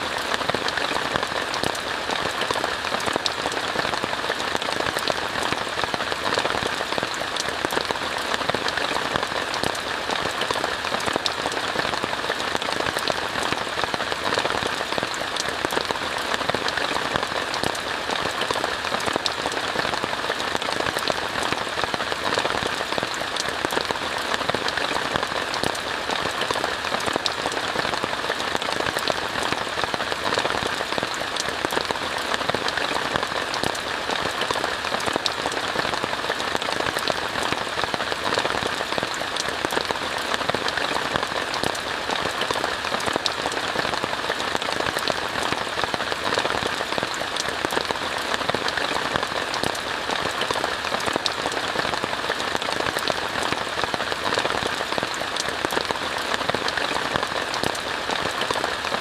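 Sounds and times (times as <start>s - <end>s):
rain hissing on a tent: 0.0s - 59.0s
raindrops tapping on fabric: 0.0s - 59.0s.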